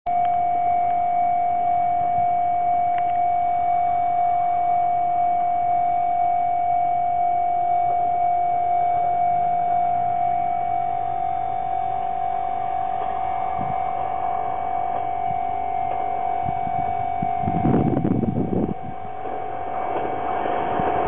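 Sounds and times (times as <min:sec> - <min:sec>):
level crossing alarm tone: 0:00.1 - 0:21.0.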